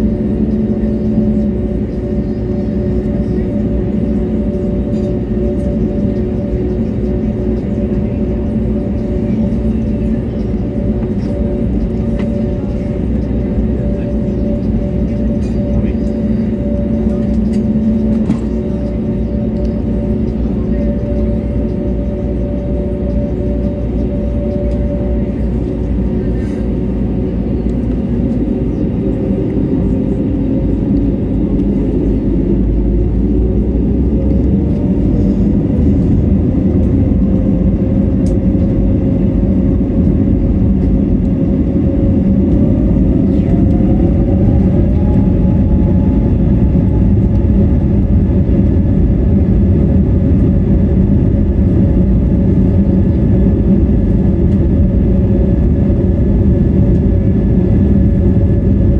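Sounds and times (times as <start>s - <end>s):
jet engines heard from cabin: 0.0s - 58.9s.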